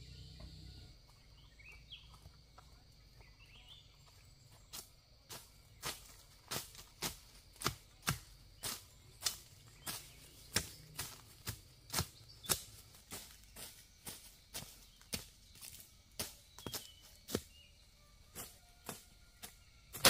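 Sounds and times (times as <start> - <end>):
footsteps walking: 1.0 - 20.0.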